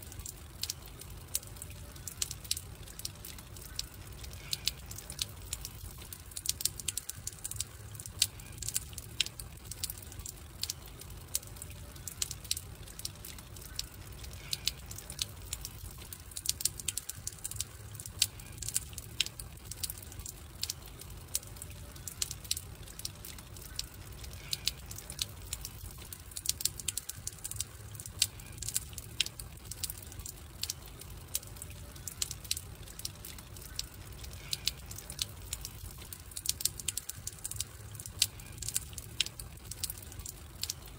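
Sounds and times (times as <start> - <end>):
low rumble of flames: 0.0 - 16.7, 17.5 - 36.6
campfire crackling: 0.0 - 40.9.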